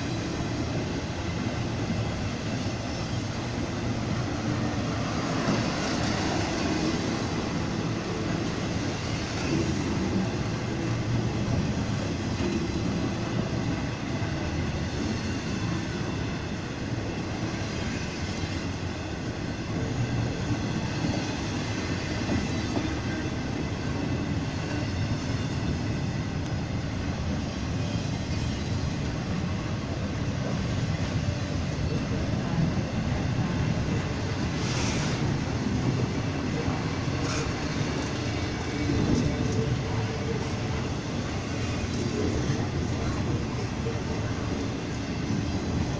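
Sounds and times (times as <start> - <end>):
train wheels rumbling: 0.0 - 45.9.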